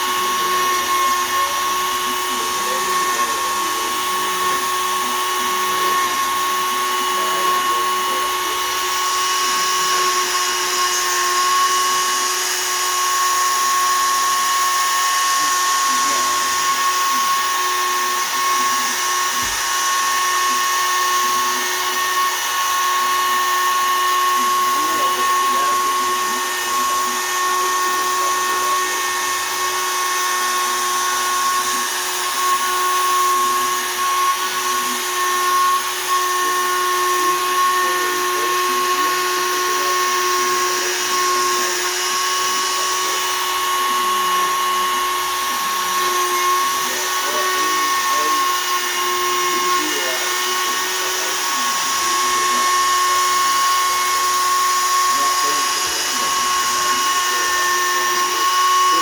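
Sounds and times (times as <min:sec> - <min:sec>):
router spindle whining while cutting wood: 0:00.0 - 0:59.0.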